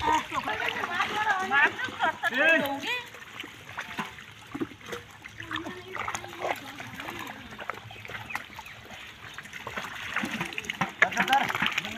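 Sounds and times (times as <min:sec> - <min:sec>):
hands squelching in wet mud: 0:00.0 - 0:11.9.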